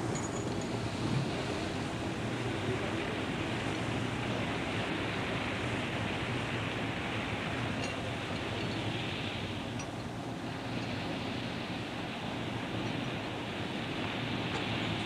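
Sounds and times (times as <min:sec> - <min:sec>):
sea noise: 0:00.0 - 0:15.0
wind: 0:00.0 - 0:15.0.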